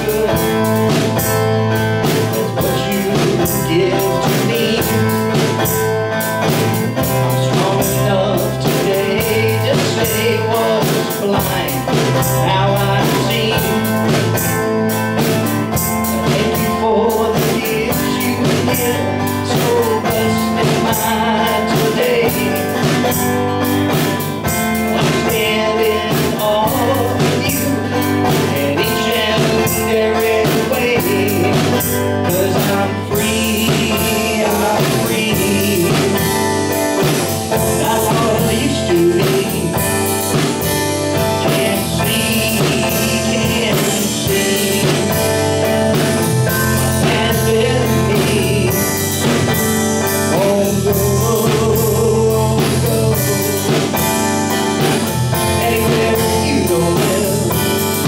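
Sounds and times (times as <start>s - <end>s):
acoustic guitar: 0.0s - 58.0s
bowed upright bass: 0.0s - 58.0s
man singing: 0.0s - 58.0s.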